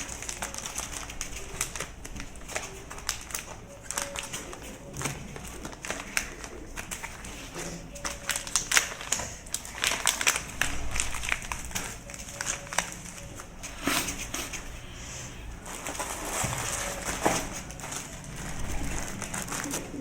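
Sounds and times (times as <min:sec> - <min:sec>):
cardboard crackling and rustling: 0:00.0 - 0:20.0.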